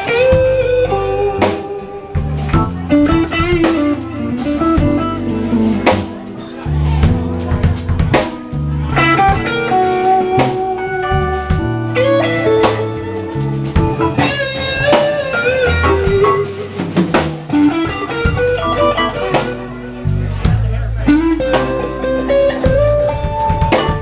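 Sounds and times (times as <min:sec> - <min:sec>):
drum kit: 0:00.0 - 0:24.0
electric bass: 0:00.0 - 0:24.0
electric guitar bending notes: 0:00.0 - 0:24.0.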